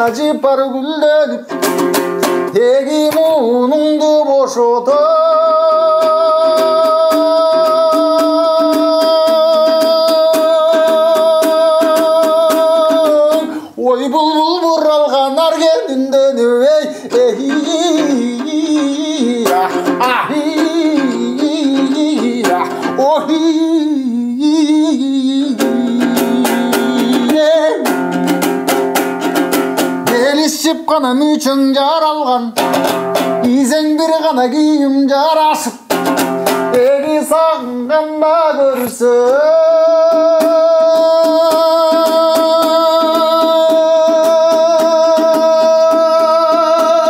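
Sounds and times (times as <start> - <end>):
lute strumming: 0.0 - 47.0
man singing folk song: 0.0 - 47.0.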